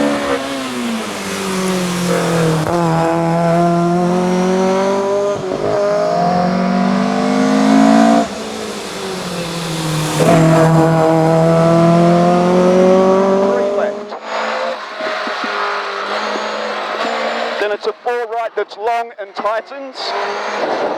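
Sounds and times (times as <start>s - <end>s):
car engine accelerating: 0.0s - 18.5s, 19.5s - 20.9s.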